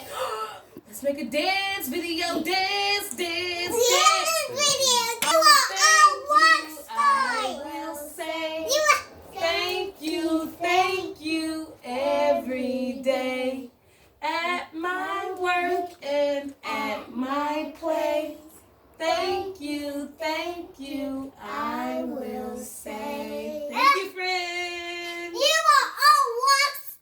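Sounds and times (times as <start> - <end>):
child and woman singing: 0.8 - 25.6.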